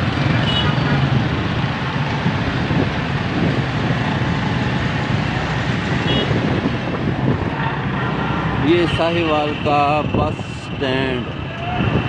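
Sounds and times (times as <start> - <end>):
motorcycle engines: 0.0 - 12.0
road noise: 0.0 - 12.0.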